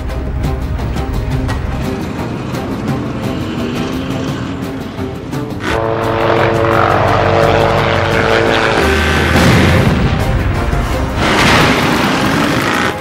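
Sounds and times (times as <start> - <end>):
helicopter noise: 0.0 - 13.0
tense film score: 0.0 - 13.0
vehicle engine: 0.0 - 13.0.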